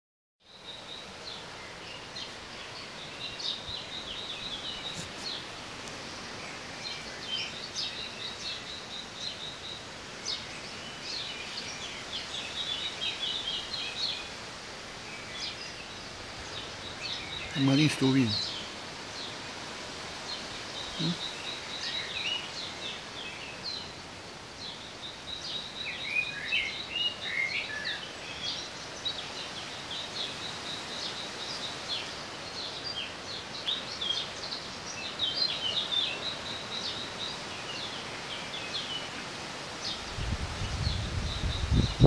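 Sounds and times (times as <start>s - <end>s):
birds chirping: 0.4s - 42.0s
faint steady hiss: 0.4s - 42.0s.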